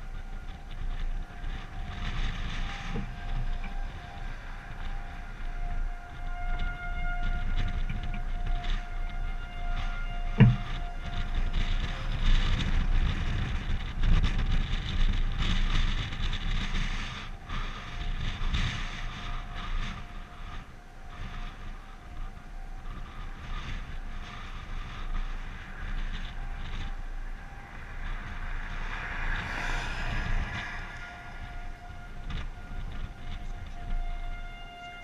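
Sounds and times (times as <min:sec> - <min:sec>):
distant warning siren: 0:00.0 - 0:35.0
wind buffeting microphone: 0:00.0 - 0:35.0.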